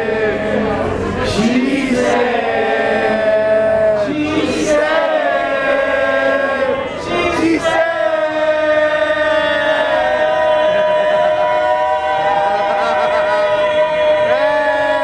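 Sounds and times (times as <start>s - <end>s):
voices holding a long note: 0.0s - 15.0s.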